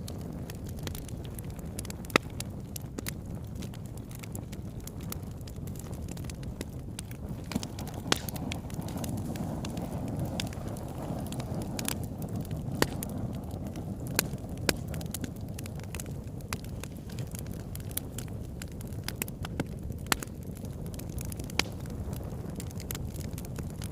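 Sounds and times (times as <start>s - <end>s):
campfire crackling and popping: 0.0s - 23.9s.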